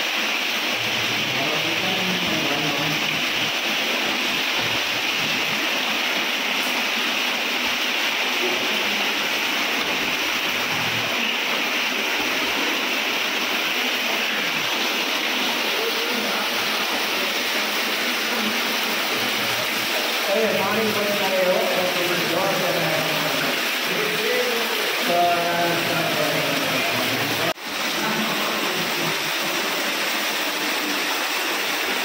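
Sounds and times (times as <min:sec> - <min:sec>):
water pouring into a well: 0:00.0 - 0:32.0.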